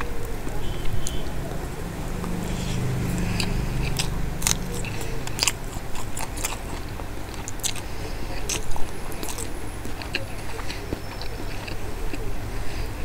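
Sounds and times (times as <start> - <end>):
crunching and chewing chilli: 0.0 - 13.0.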